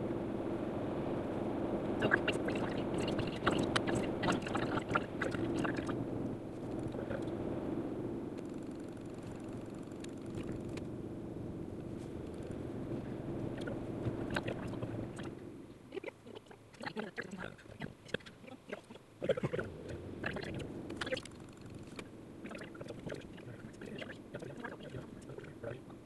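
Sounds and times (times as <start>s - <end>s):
car engine and tyre rumble: 0.0s - 15.9s, 17.6s - 26.0s.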